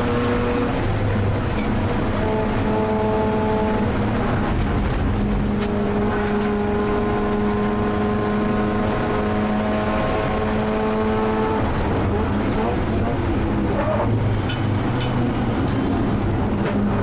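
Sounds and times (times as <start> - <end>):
rotary engine at high revs: 0.0 - 17.0.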